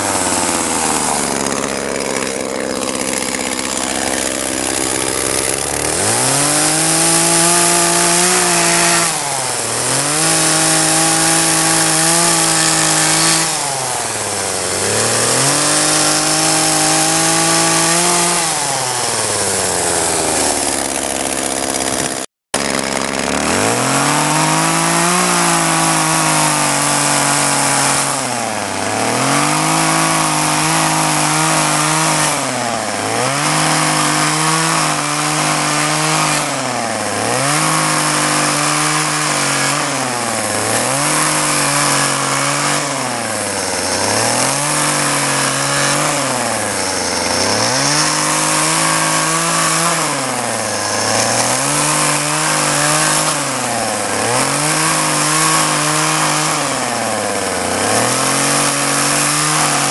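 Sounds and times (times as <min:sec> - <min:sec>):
chainsaw carving wood: 0:00.0 - 0:59.9.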